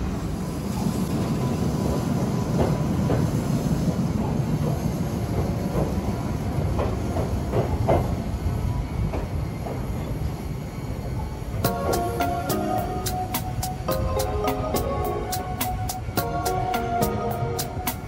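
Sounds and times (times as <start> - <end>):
electric train rumbling: 0.0 - 18.0
train wheels clacking and squealing: 0.0 - 18.0.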